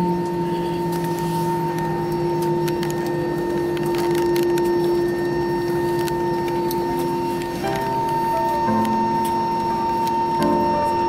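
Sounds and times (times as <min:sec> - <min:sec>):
jet engines idling whine: 0:00.0 - 0:11.0.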